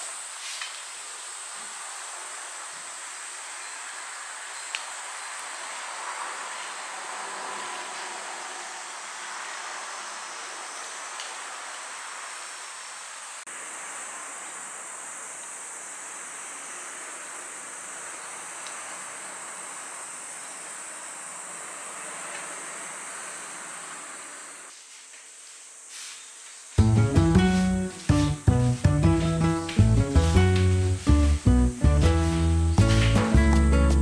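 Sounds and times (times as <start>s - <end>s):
soft even hiss: 0.0s - 5.9s, 8.0s - 34.0s.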